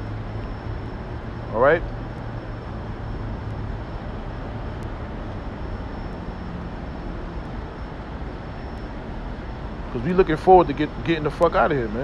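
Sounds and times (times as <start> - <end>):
faint high whine: 0.0 - 12.0
low vehicle rumble: 0.0 - 12.0.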